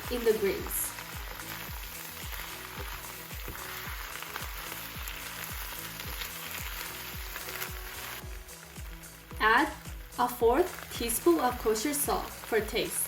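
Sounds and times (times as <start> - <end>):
background music with steady beat: 0.0 - 13.0
vegetables sizzling in hot oil: 0.0 - 13.0.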